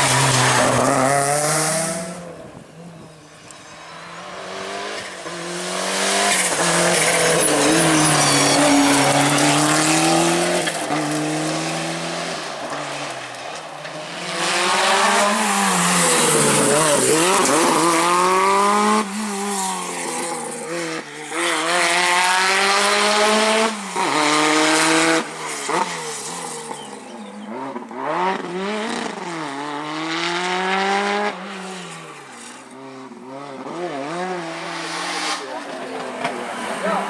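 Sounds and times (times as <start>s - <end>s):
rally car engine revving with upshifts: 0.0s - 37.0s.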